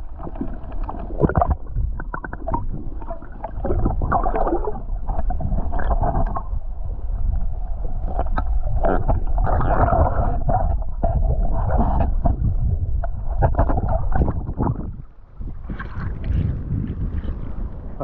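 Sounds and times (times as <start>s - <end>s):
low rumble: 0.0s - 18.0s
muffled underwater churning: 0.0s - 18.0s.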